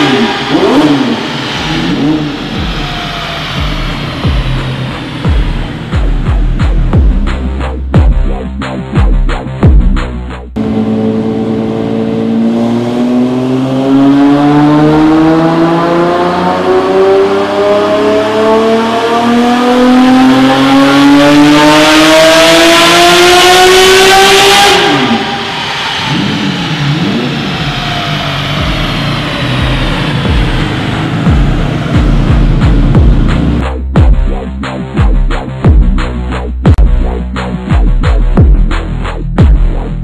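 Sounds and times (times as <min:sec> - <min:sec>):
car engine revving at full throttle: 0:00.0 - 0:08.1, 0:10.5 - 0:40.0.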